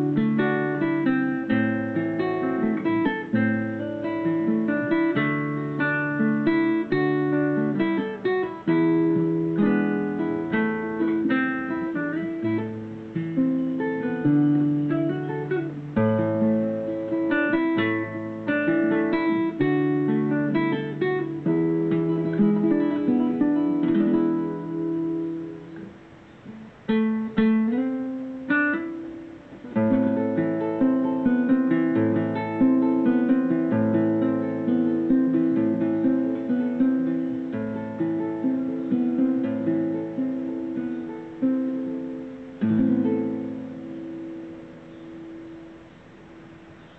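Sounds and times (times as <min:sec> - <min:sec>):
fingerstyle classical guitar: 0:00.0 - 0:46.9.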